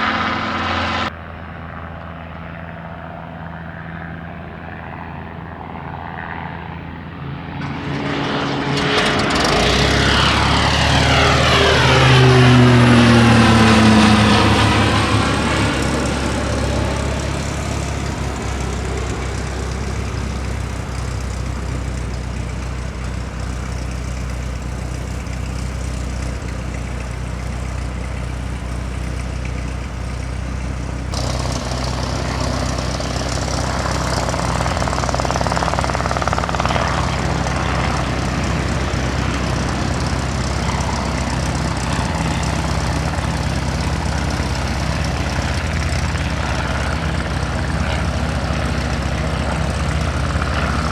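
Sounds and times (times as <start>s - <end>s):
aircraft engines humming: 0.0s - 50.9s.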